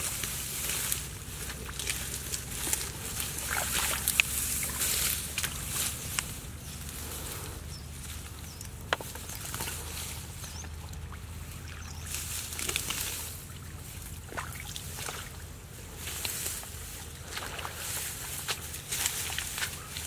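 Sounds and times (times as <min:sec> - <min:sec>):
hands sloshing in muddy water: 0:00.0 - 0:06.0, 0:09.0 - 0:20.0
dry grass rustling: 0:00.0 - 0:20.0
steady low hum: 0:00.0 - 0:20.0.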